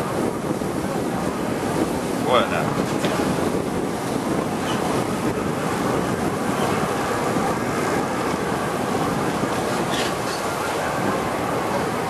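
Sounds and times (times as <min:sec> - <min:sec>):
cable car wheels rumbling on rails: 0:00.0 - 0:12.0.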